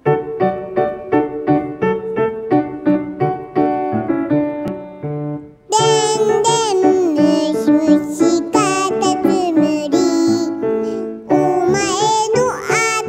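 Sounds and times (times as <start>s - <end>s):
grand piano playing: 0.0s - 13.0s.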